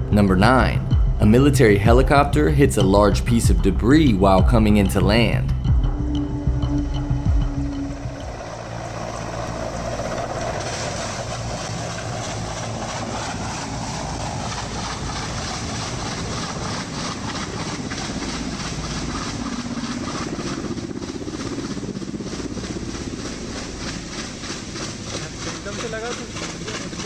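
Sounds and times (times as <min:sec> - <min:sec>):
helicopter rotor beating: 0:00.0 - 0:27.0.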